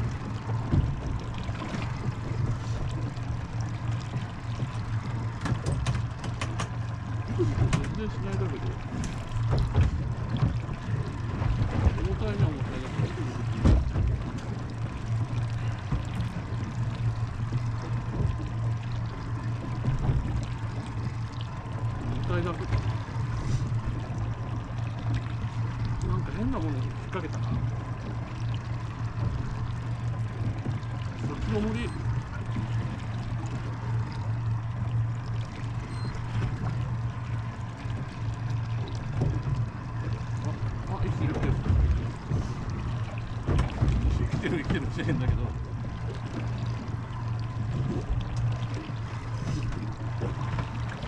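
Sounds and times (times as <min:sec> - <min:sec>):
boat engine idling: 0:00.0 - 0:51.0
water lapping against hull: 0:00.0 - 0:51.0.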